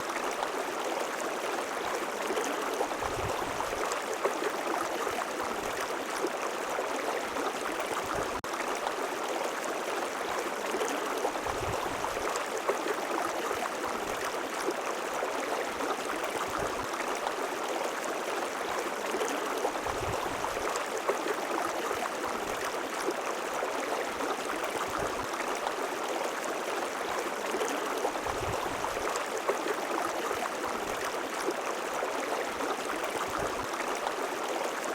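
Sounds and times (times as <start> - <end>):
low water gurgles: 0.0 - 34.9
river water babbling: 0.0 - 34.9.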